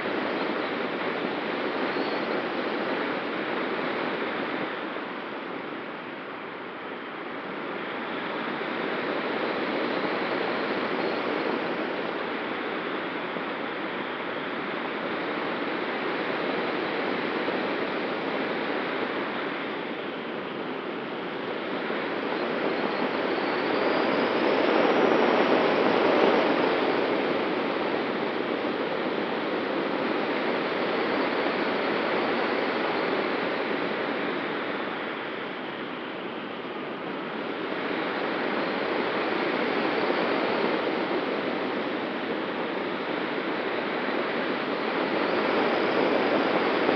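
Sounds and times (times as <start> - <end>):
wind rushing over camera: 0.0 - 46.9.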